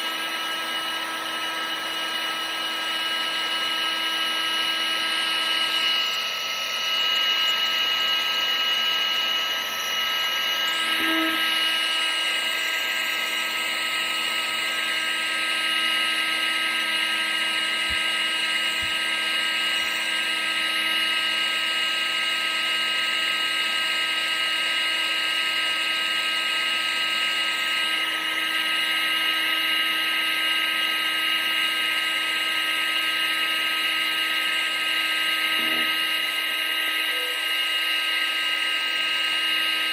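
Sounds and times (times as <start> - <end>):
high motor whine: 0.0 - 39.9.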